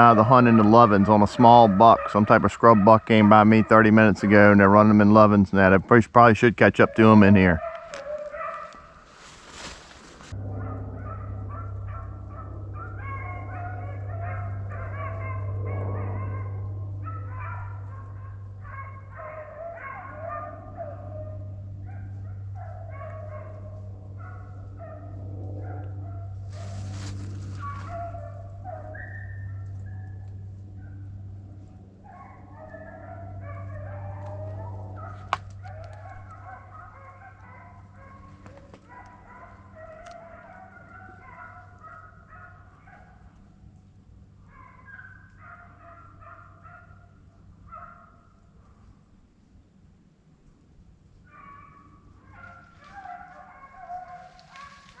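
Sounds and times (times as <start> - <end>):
hounds baying: 0.0 - 5.8, 6.6 - 48.9, 51.2 - 55.0
low hum: 0.0 - 55.0.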